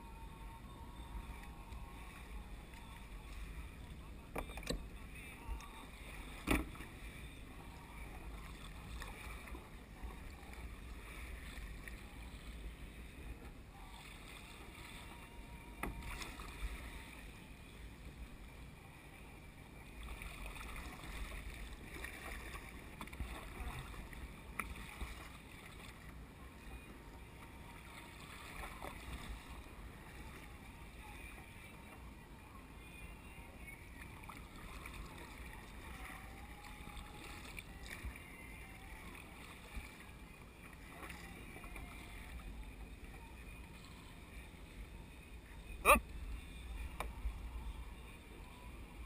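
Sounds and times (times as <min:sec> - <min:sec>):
water lapping against hull: 0:00.0 - 0:49.0.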